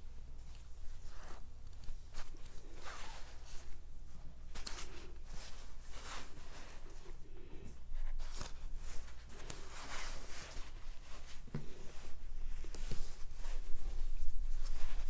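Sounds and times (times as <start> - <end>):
fur collar rustling: 0.3 - 7.2, 8.0 - 15.0.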